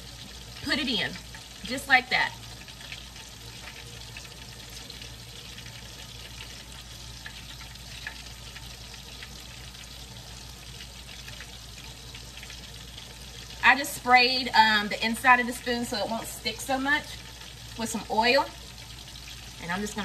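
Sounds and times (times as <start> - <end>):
oil sizzling in a skillet: 0.0 - 20.0.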